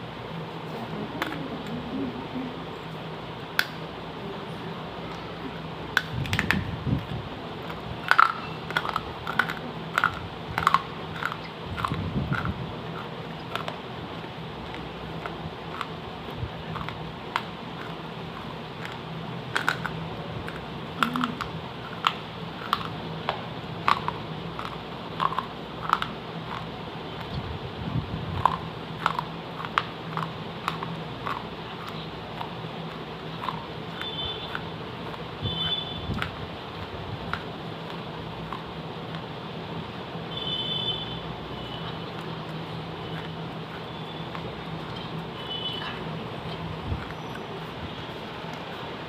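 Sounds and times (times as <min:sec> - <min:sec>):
low steady hum: 0:00.0 - 0:49.0
clay cup crunching being chewed: 0:06.0 - 0:27.4, 0:28.3 - 0:39.3, 0:41.8 - 0:49.0.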